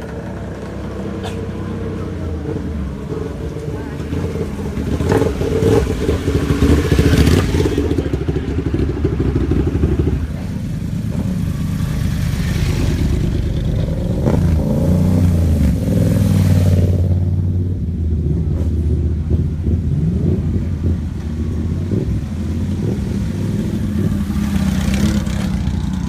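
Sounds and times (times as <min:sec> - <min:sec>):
motorbike engines revving: 0:00.0 - 0:26.0.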